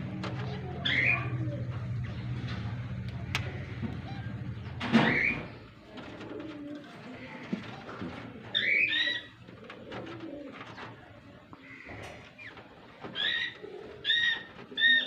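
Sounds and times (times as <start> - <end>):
doves cooing softly: 0.2 - 15.0.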